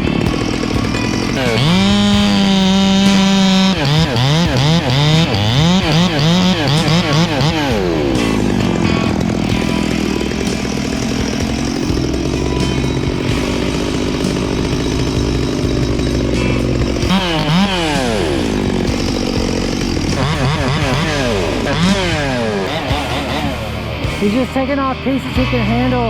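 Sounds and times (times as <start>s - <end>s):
chainsaw cutting limbs: 0.0s - 26.0s.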